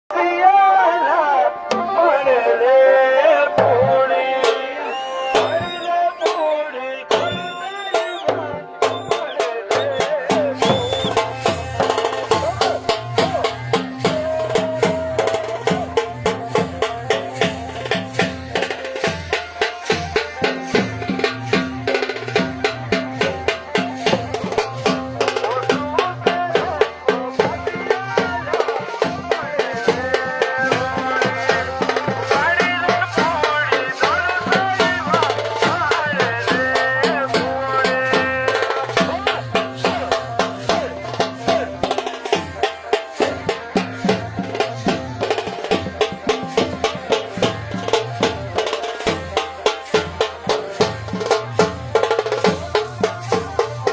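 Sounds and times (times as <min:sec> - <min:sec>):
band playing: 0:00.1 - 0:53.9
fast drumming: 0:03.5 - 0:53.9.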